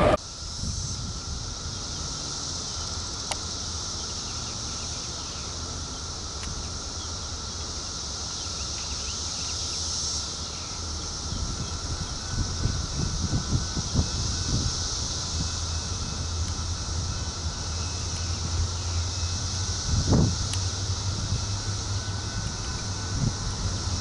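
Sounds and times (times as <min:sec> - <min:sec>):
distant freight train rumble: 0:00.0 - 0:24.0
high-pitched insect drone: 0:00.0 - 0:24.0.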